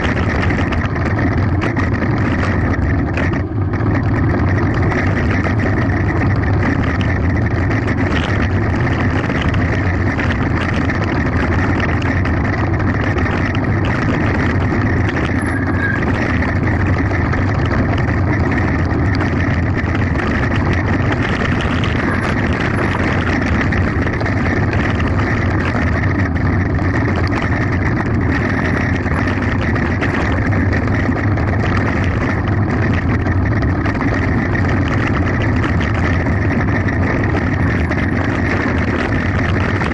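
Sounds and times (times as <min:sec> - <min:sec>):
bike tyres on gravel: 0:00.0 - 0:39.9
wind rush over microphone: 0:00.0 - 0:39.9.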